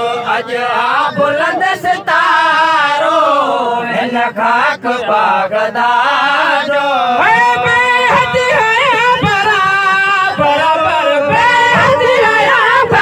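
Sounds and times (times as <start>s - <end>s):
men singing sufi song: 0.0s - 13.0s.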